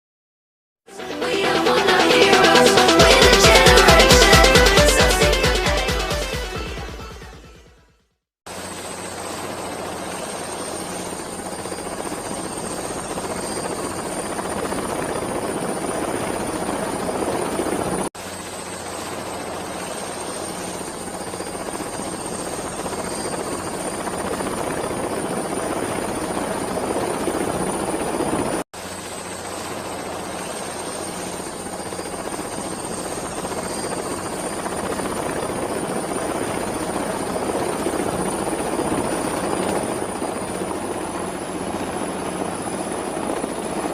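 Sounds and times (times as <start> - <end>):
helicopter running: 0.9 - 7.6, 8.5 - 43.9.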